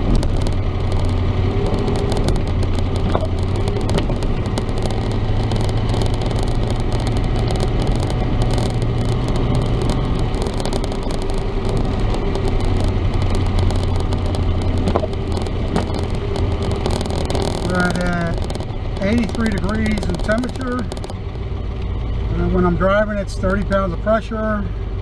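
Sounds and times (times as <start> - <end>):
pickup engine and road drone: 0.0 - 25.0.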